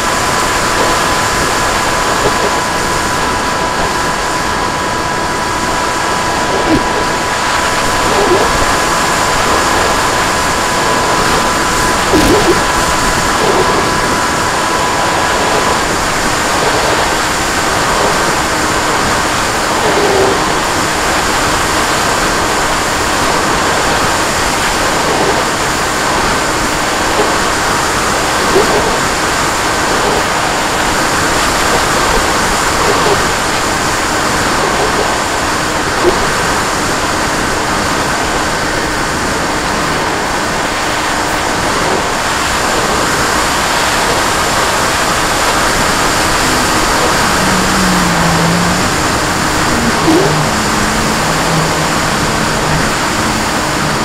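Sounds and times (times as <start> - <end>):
model plane motor whine: 0.0 - 54.0
wind rushing over microphone: 0.0 - 54.0.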